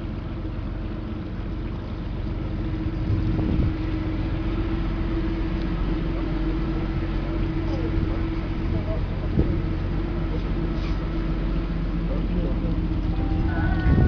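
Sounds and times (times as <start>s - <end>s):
boat engine droning: 0.0s - 14.0s
water and wind rushing: 0.0s - 14.0s.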